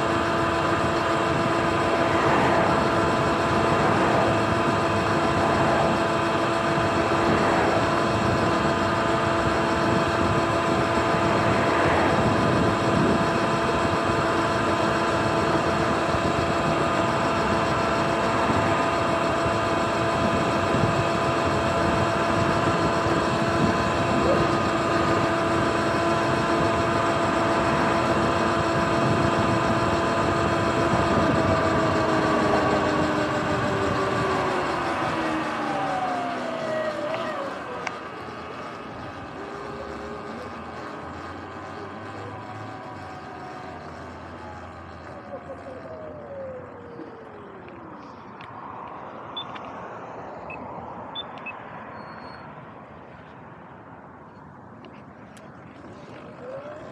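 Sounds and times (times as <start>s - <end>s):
electric motor whining: 0.0s - 51.1s, 55.1s - 56.9s
wind and road noise: 0.0s - 56.9s.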